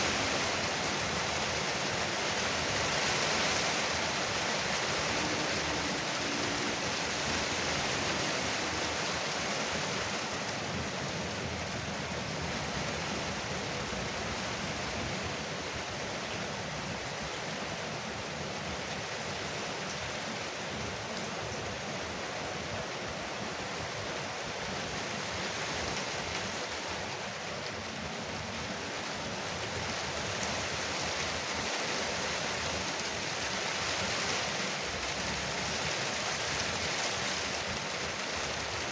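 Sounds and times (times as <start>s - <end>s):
rain pouring on a roof: 0.0s - 38.9s.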